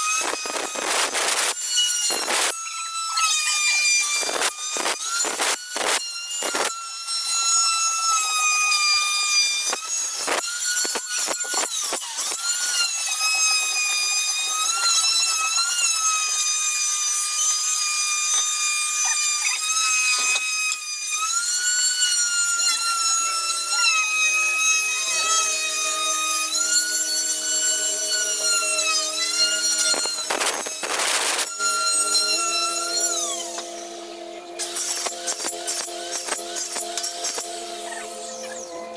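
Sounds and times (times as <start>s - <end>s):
handsaw rasping through wood: 0.0s - 38.9s
power tool motor whining: 0.0s - 38.9s.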